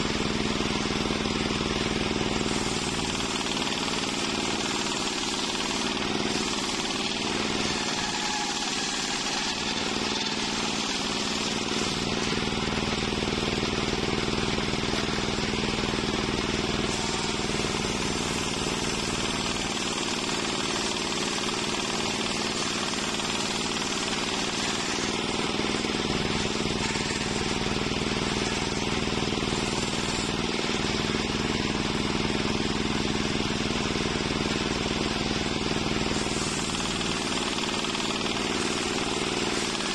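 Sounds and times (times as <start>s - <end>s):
saw blade cutting wood: 0.0s - 39.9s.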